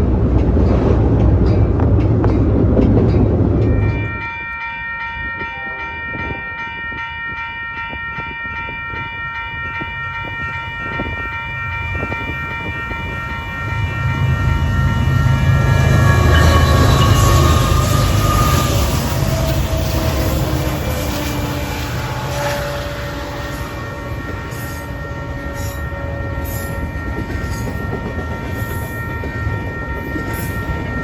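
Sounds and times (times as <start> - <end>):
crossing warning bell ringing: 0.0 - 31.0
train rumbling: 0.0 - 31.0.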